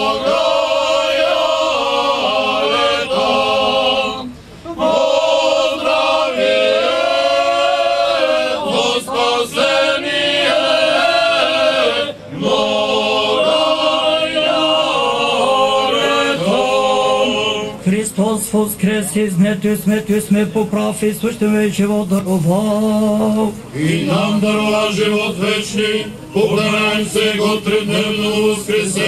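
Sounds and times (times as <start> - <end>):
choir chanting unaccompanied: 0.0 - 29.0.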